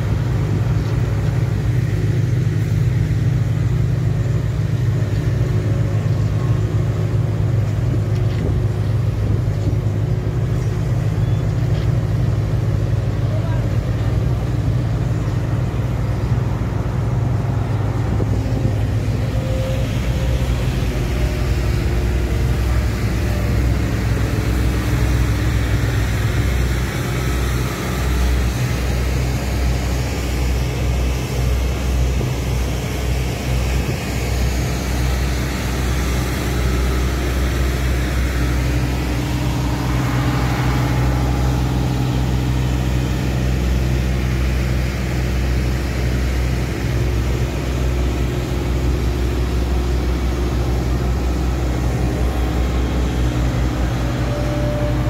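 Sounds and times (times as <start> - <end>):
deep diesel engine drone: 0.0 - 55.0.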